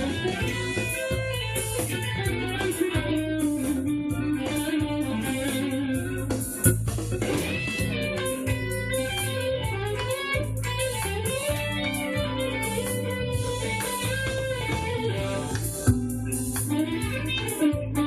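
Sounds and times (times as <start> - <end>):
overdriven electric guitar: 0.0 - 18.0.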